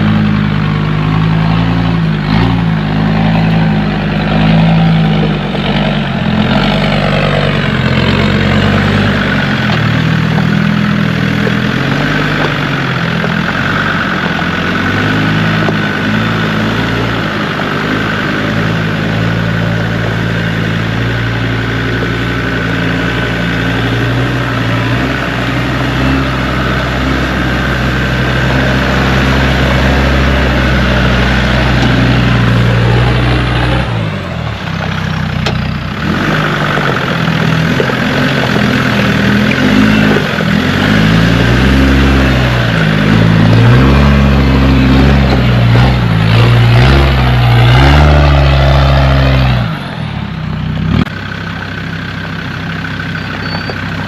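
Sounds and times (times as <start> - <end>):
diesel engine at low revs: 0.0 - 54.0.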